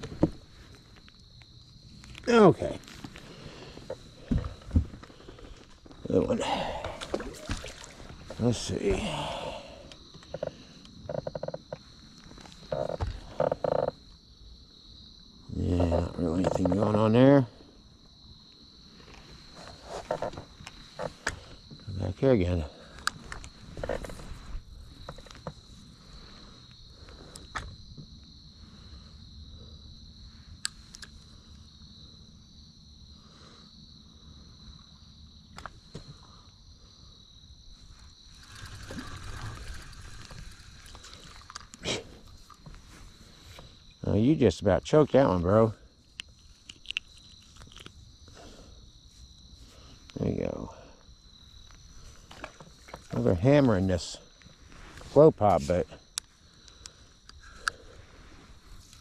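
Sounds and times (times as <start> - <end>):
frogs croaking: 0.0 - 59.0
insects chorus: 0.0 - 59.0.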